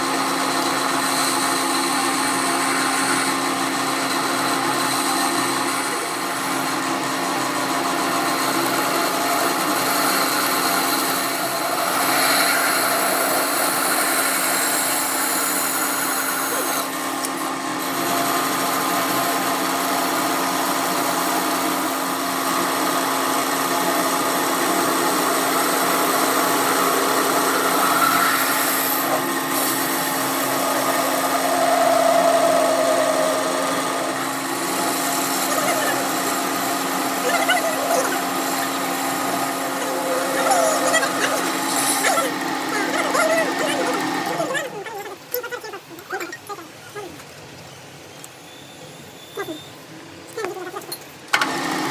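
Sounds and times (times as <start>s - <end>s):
power tool running: 0.0s - 45.6s, 51.3s - 51.9s.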